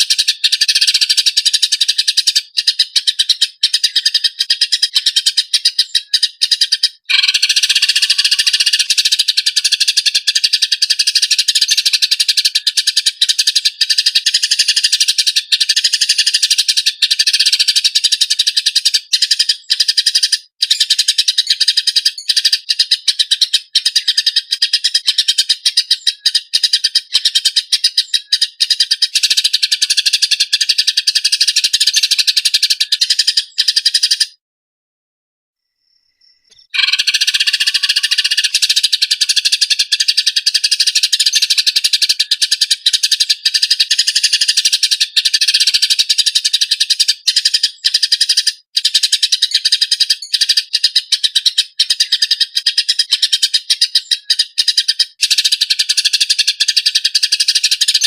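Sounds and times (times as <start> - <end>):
sparrows chattering: 0.0 - 34.4, 36.0 - 58.0.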